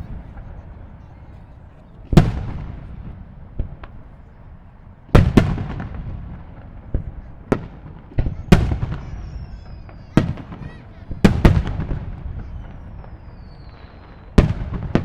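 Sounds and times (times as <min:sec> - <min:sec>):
firework cracks: 0:01.9 - 0:15.0
firework booms with rumble: 0:02.1 - 0:04.3, 0:05.1 - 0:15.0.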